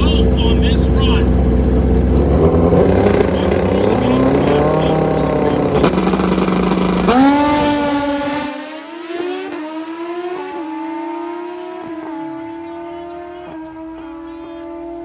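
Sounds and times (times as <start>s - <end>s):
motorcycle accelerating hard: 0.0s - 15.0s.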